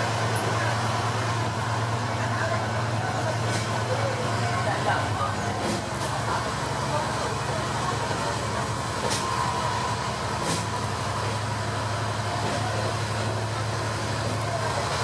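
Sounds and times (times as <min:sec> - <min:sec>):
railcar engine hum: 0:00.0 - 0:15.0.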